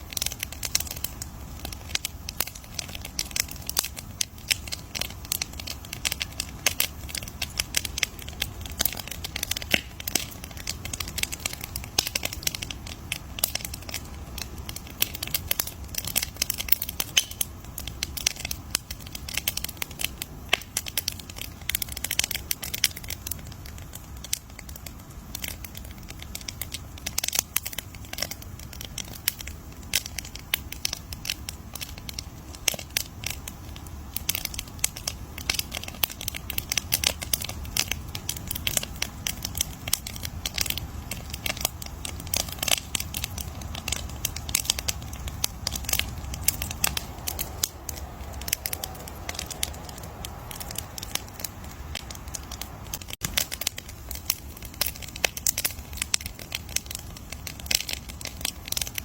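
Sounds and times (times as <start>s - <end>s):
campfire crackling and popping: 0.0s - 59.0s
low rumble of flames: 0.0s - 59.0s.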